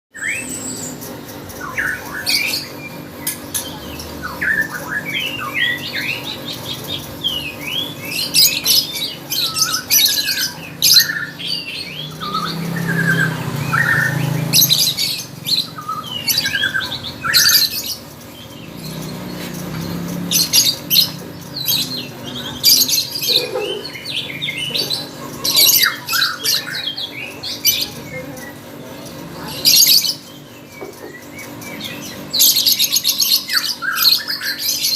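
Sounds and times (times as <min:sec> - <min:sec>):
lovebird chirping and squawking: 0:00.2 - 0:34.9.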